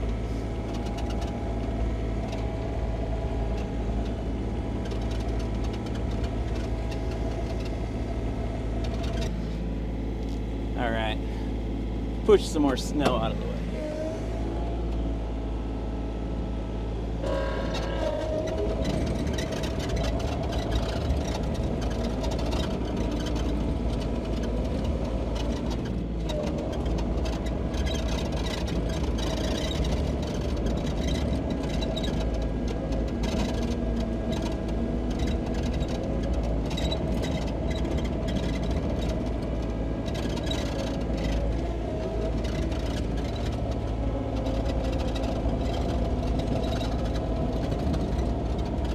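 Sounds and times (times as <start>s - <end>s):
excavator diesel engine humming: 0.0s - 48.9s.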